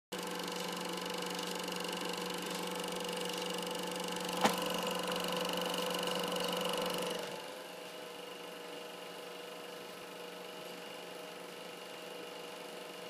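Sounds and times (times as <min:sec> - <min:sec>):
film projector whirring: 0:00.2 - 0:13.0.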